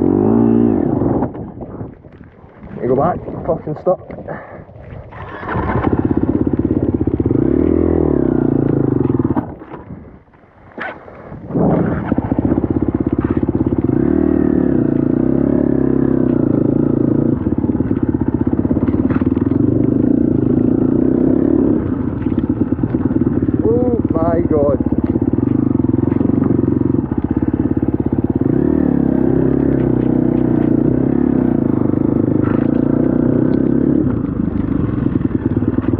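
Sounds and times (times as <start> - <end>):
dirt bike engine revving: 0.0 - 1.3, 5.1 - 9.6, 11.5 - 35.9.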